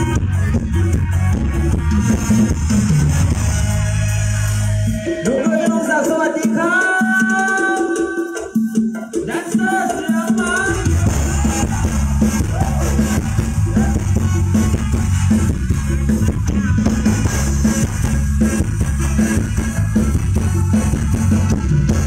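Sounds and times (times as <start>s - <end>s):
live band music through loudspeakers: 0.0s - 22.0s.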